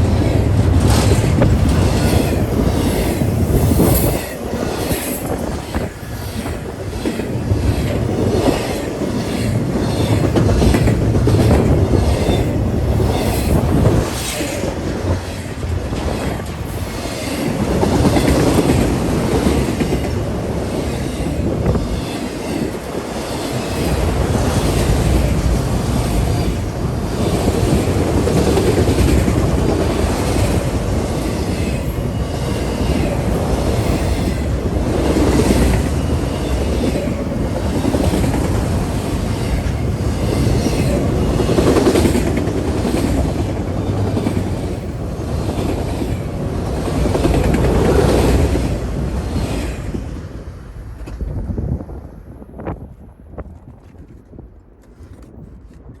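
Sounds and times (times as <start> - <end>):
train passing rumble: 0.0 - 56.0.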